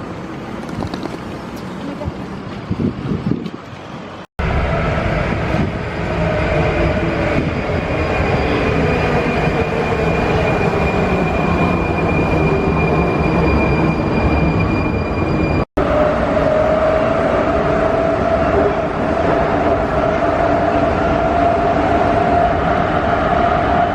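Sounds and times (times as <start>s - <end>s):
metro train running: 0.0s - 23.9s.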